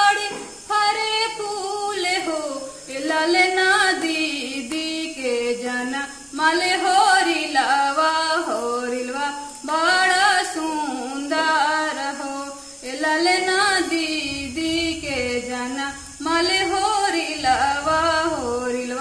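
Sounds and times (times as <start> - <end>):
woman singing folk song: 0.0 - 19.0.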